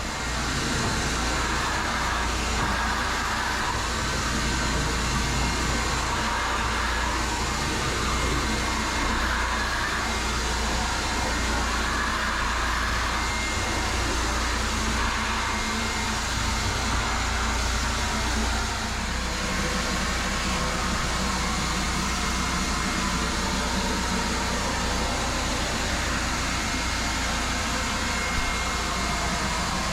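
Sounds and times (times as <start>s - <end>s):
shop vacuum running: 0.0s - 29.9s.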